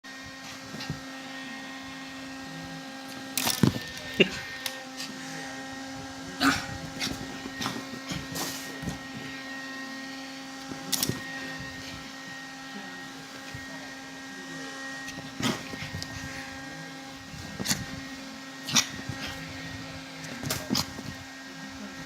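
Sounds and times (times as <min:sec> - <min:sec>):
mini fan motor whirring: 0:00.1 - 0:22.0.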